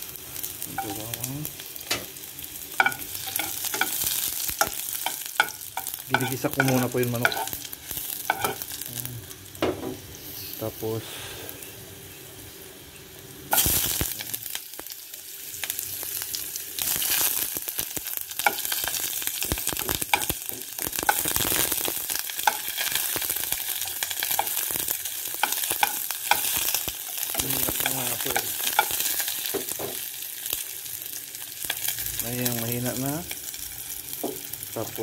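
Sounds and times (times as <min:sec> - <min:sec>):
onion sizzling in hot oil: 0:00.0 - 0:35.0.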